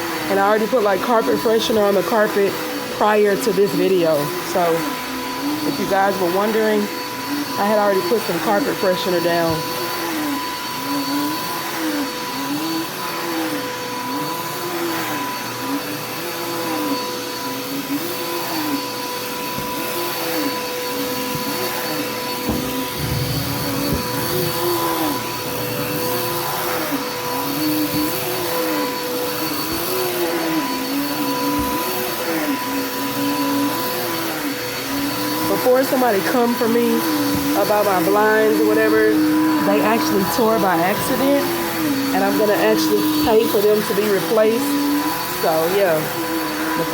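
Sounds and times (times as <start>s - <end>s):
vacuum cleaner running over carpet: 0.0s - 46.9s.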